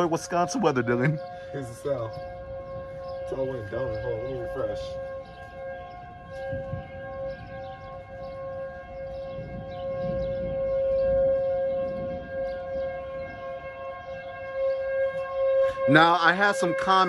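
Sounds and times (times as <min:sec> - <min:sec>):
civil defense siren: 0:00.0 - 0:17.0.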